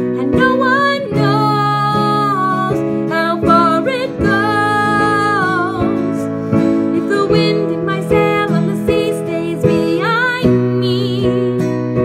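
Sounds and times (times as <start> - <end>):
woman singing: 0.0 - 12.0.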